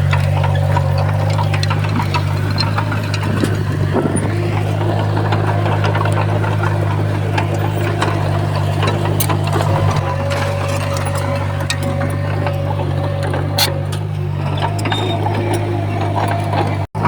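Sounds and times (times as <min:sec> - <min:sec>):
bulldozer diesel engine running: 0:00.0 - 0:17.0
light clanks and clicks: 0:00.0 - 0:17.0.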